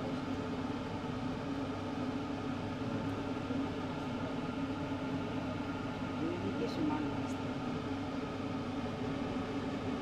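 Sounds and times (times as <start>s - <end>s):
constant low hum: 0.0s - 10.0s.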